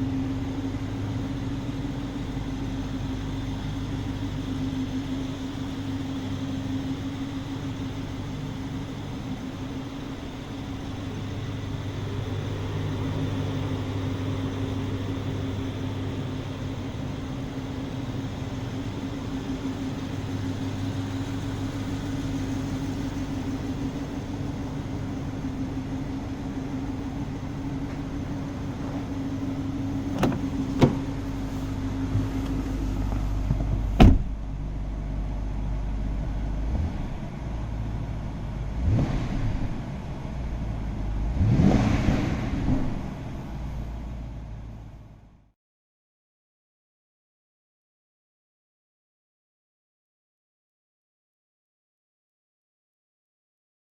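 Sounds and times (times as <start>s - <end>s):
car engine idling: 0.0s - 45.5s.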